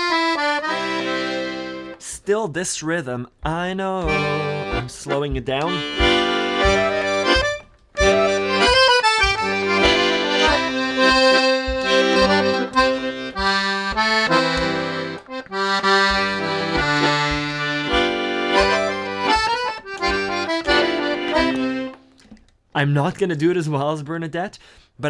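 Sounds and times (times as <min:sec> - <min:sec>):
bluesy accordion playing: 0:00.0 - 0:22.2.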